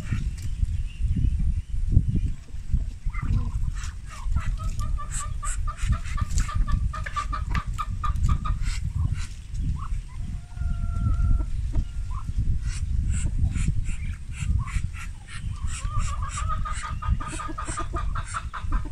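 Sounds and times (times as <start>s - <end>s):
chicken clucking: 2.3s - 18.9s.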